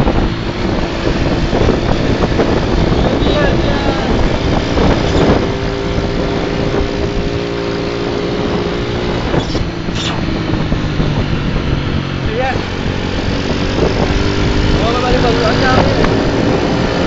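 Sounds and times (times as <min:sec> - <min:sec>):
vehicle engine cruising: 0:00.0 - 0:17.0
wind and road noise: 0:00.0 - 0:17.0.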